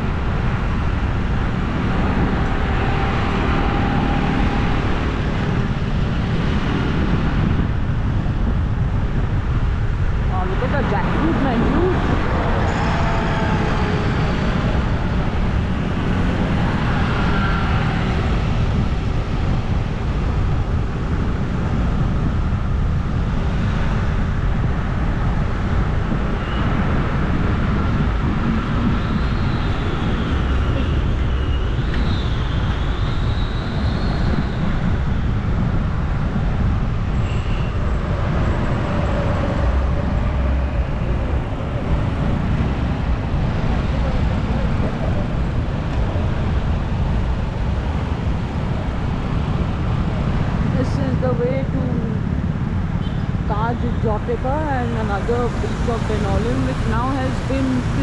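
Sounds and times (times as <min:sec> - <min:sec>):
road noise from bike: 0:00.0 - 0:58.0
wind rush on microphone: 0:00.0 - 0:58.0.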